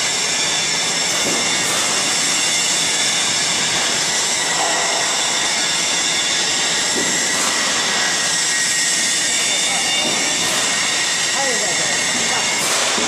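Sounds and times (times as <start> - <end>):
high steady whines: 0.0 - 13.0
mechanical drone of motors and rollers: 0.0 - 13.0.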